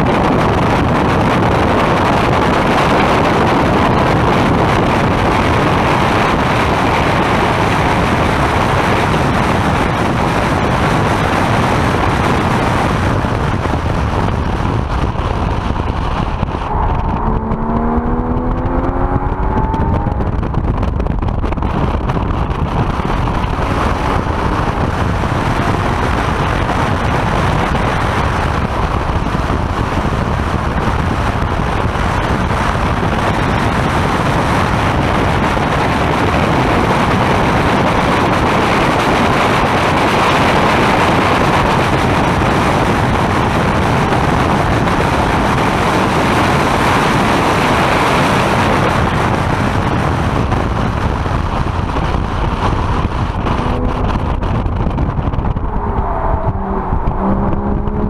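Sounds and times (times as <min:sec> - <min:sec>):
sports car engine: 0:00.0 - 0:58.0
wind and road noise: 0:00.0 - 0:58.0.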